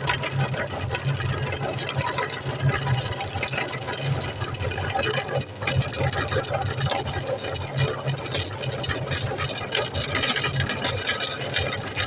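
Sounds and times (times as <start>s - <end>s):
meat grinder motor hum: 0.0s - 12.0s.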